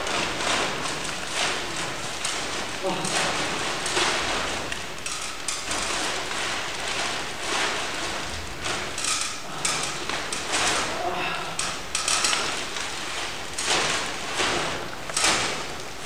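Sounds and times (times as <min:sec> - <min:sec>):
plastic sheet rustling and crinkling: 0:00.0 - 0:16.0.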